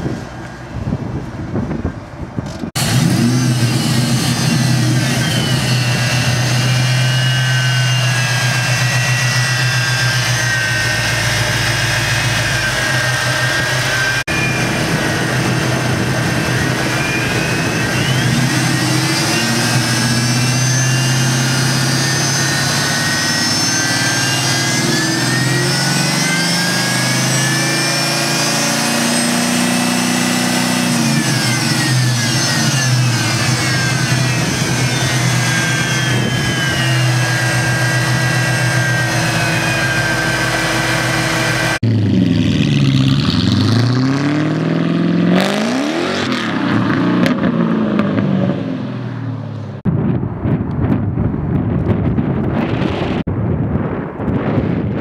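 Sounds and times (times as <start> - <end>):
car engine idling and revving: 0.0 - 53.3
supercharger whine: 0.0 - 55.0.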